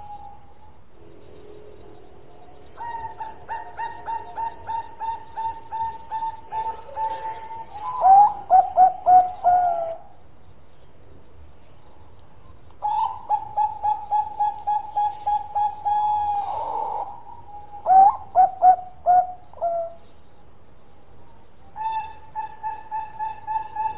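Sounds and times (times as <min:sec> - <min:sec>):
dove cooing song: 0:00.0 - 0:10.2, 0:12.4 - 0:20.2, 0:21.6 - 0:23.9.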